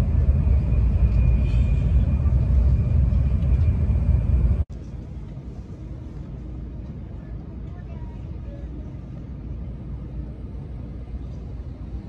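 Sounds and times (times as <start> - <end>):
train cabin low rumble: 0.0 - 12.0.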